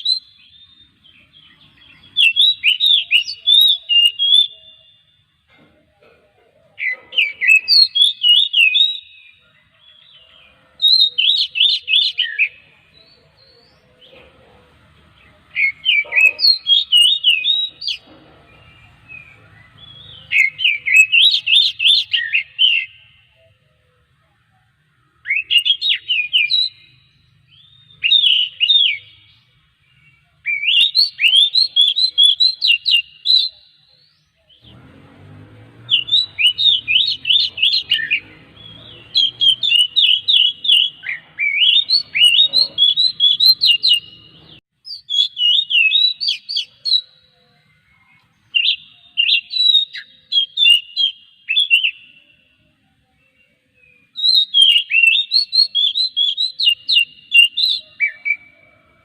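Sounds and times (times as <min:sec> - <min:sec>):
bird singing whistled notes: 0:00.0 - 0:05.3, 0:06.8 - 0:14.0, 0:15.5 - 0:23.6, 0:25.0 - 0:34.7, 0:35.7 - 0:59.0.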